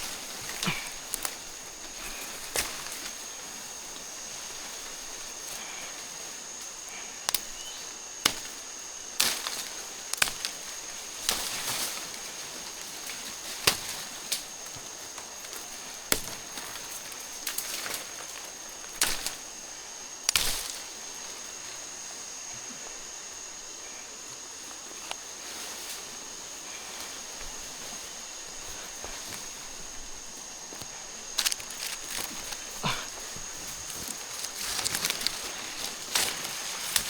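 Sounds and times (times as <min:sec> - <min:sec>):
steady high-pitched whine: 0:00.0 - 0:37.0.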